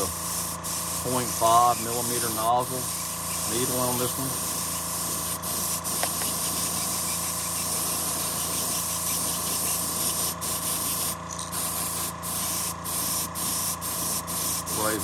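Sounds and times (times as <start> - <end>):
airbrush spraying hiss: 0.0 - 15.0.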